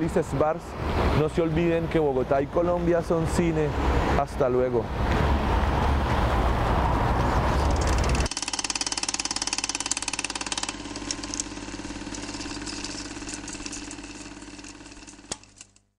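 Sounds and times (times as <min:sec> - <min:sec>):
traffic noise: 0:00.0 - 0:15.3
wind: 0:00.0 - 0:15.9.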